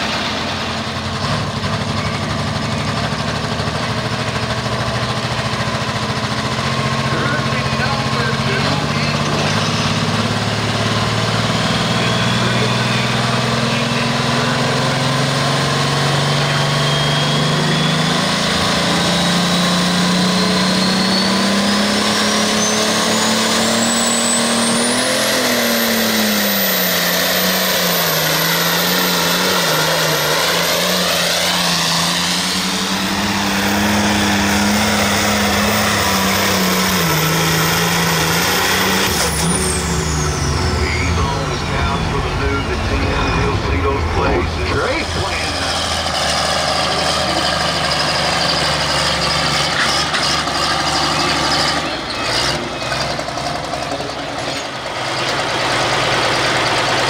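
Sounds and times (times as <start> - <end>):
high turbo whine: 0.0 - 57.0
tractor diesel engine running: 0.0 - 57.0.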